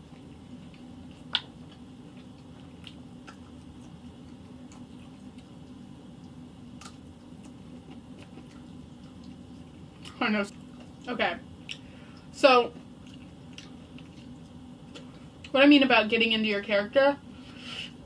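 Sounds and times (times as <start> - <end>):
person chewing food: 0.0 - 15.5
steady low hum: 0.0 - 18.0.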